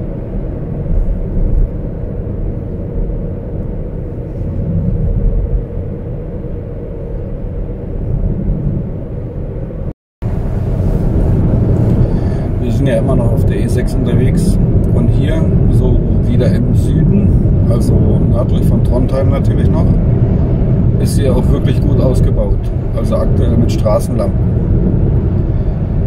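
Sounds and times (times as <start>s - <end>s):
car tyres and engine rumble: 0.0s - 26.0s.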